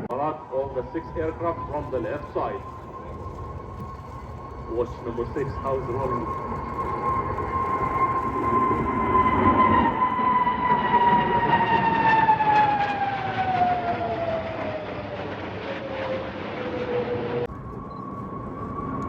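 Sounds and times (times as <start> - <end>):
jet flying past: 0.0 - 19.0.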